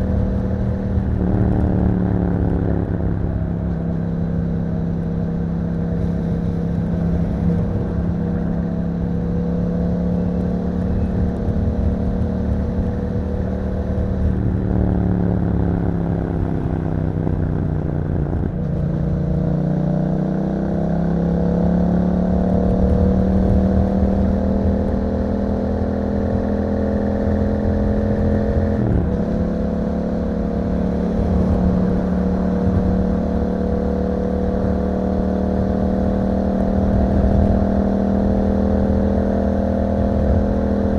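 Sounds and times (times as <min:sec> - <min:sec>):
motorcycle engine riding: 0:00.0 - 0:40.9.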